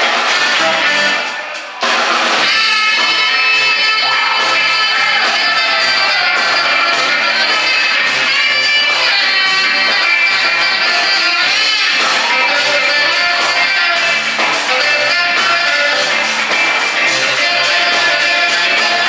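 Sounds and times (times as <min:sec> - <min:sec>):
live funk band playing: 0:00.0 - 0:19.0.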